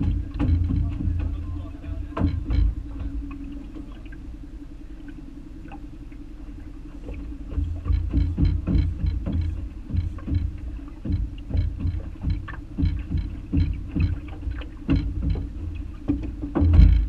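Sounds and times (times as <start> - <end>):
steady low hum: 0.0 - 17.0
waves slapping boat hull: 0.0 - 17.0.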